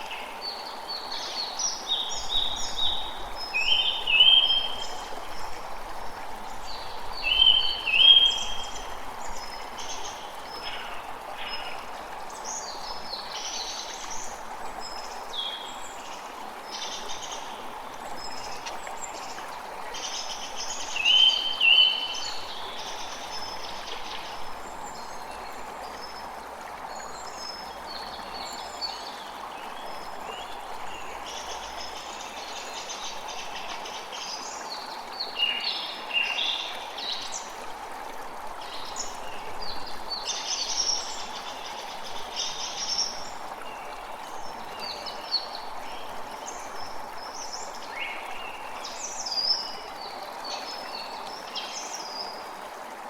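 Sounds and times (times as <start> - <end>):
creek running: 0.0 - 53.0.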